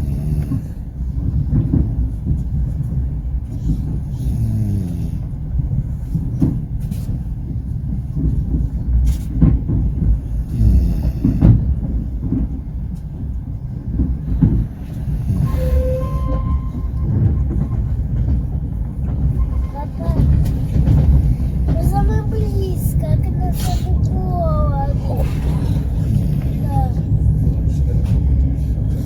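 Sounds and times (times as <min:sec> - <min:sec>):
train coach rumbling on rails: 0:00.0 - 0:29.0
train wheels knocking: 0:00.0 - 0:29.0.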